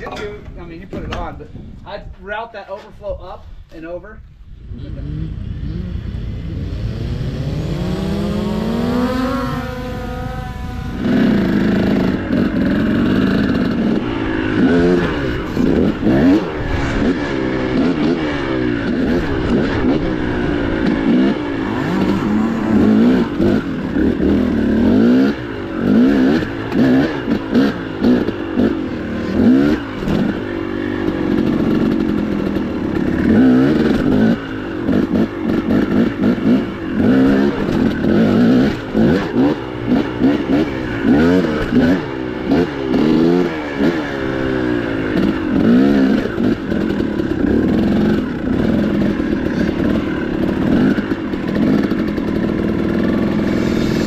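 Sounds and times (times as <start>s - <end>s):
dirt bike engine revving: 4.6s - 54.0s.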